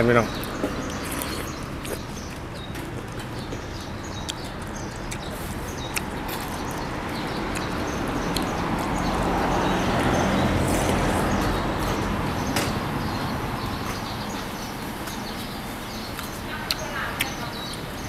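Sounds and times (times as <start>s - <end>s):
vehicle passing: 0.0s - 18.0s.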